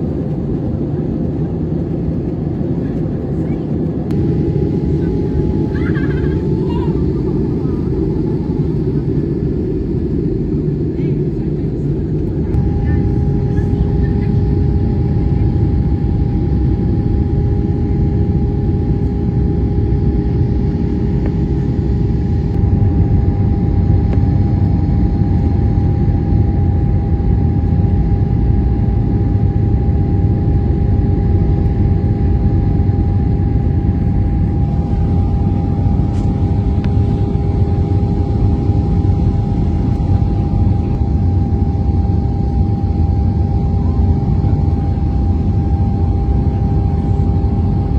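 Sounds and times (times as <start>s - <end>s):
low rumble of engines and airflow: 0.0s - 47.9s
steady humming tones: 0.0s - 47.9s.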